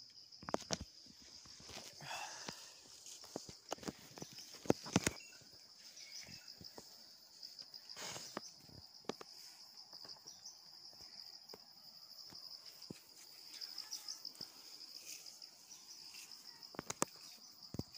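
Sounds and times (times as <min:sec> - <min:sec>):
insects chirring: 0:00.0 - 0:17.9.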